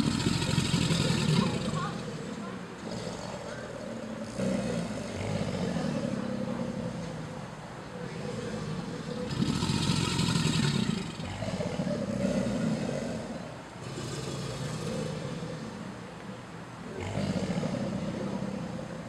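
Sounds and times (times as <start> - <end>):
alligators bellowing: 0.0 - 19.0.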